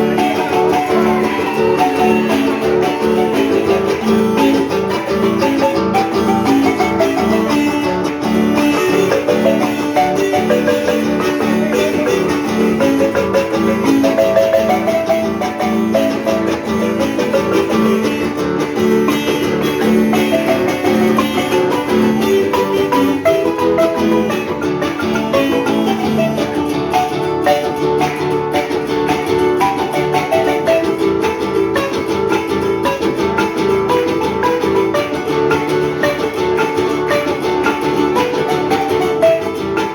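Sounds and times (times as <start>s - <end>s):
marimba melody: 0.0s - 39.9s
plucked strings: 0.0s - 39.9s.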